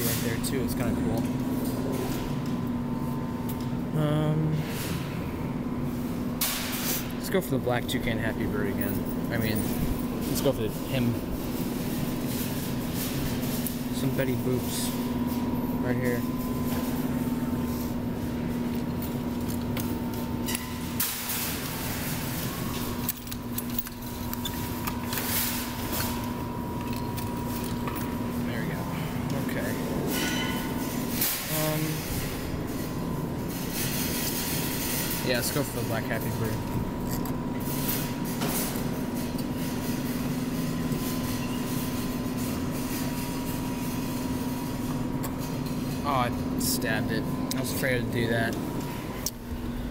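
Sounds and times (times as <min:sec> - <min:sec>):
claw machine electrical hum: 0:00.0 - 0:49.9.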